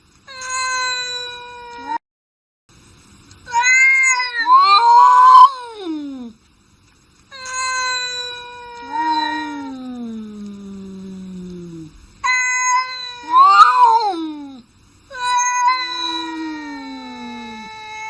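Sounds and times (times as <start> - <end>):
angry cat meowing: 0.3 - 2.0, 3.5 - 6.4, 7.3 - 18.0.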